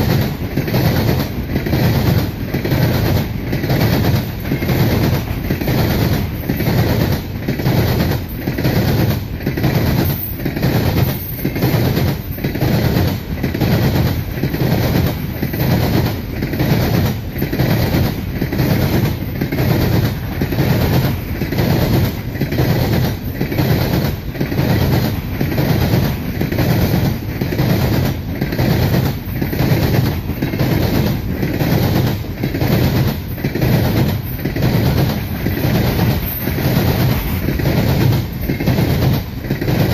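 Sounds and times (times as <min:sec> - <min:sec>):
freight train rumble: 0:00.0 - 0:39.9
wheels clacking over rail joints: 0:00.0 - 0:39.9.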